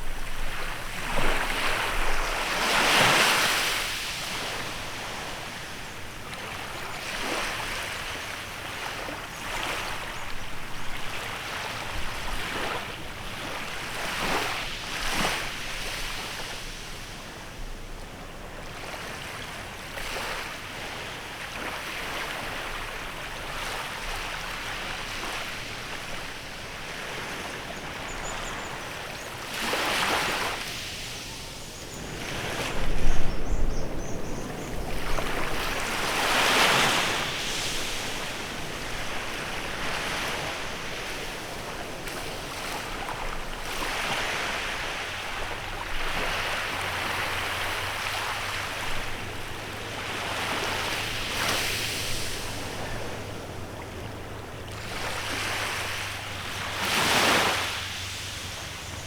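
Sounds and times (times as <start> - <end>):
small waves washing up beach: 0.0 - 59.0.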